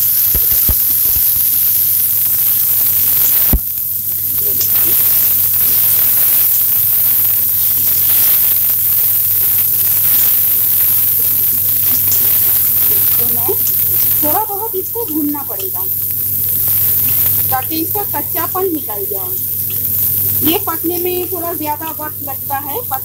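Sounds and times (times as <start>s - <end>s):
stems sizzling in hot oil: 0.0s - 23.0s.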